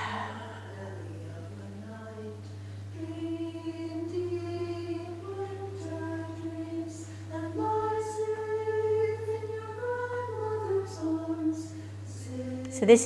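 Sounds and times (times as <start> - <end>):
woman singing slow held notes: 0.0 - 2.4, 3.0 - 13.0
steady low hum: 0.0 - 13.0.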